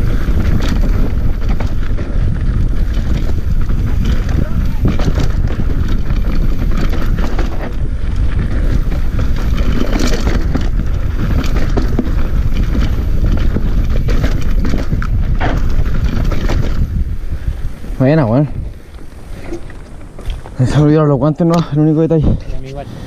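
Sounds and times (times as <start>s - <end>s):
bike knocks and rattles: 0.0s - 20.8s
tyres running over dirt and rocks: 0.0s - 23.0s
wind rushing over microphone: 0.0s - 23.0s.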